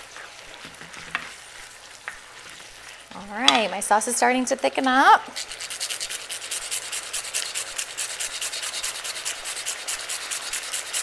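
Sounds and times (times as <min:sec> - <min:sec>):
spoon scraping rice in a pan: 0:00.0 - 0:03.6, 0:05.4 - 0:11.0.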